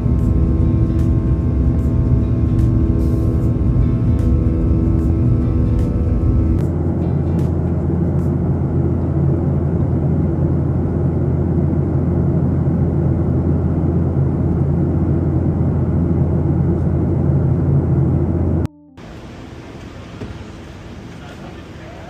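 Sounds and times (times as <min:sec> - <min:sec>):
vehicle rumbling in motion: 0:00.0 - 0:22.0.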